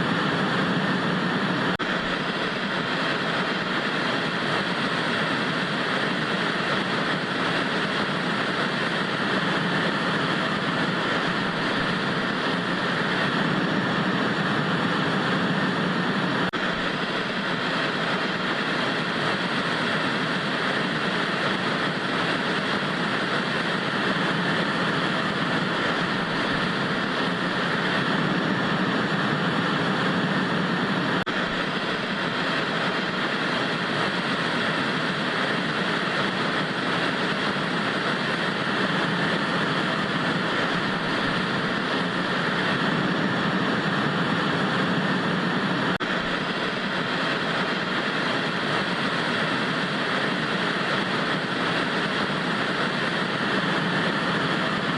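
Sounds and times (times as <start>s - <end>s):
tv static hiss: 0.0s - 54.9s.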